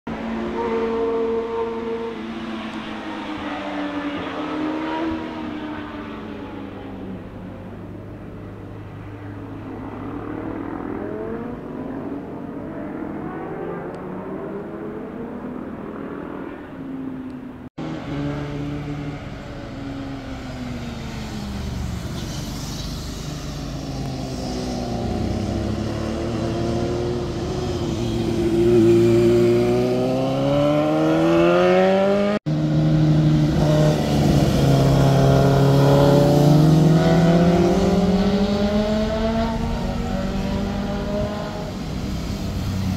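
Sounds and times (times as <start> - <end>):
motorcycle engines revving past: 0.1 - 42.9.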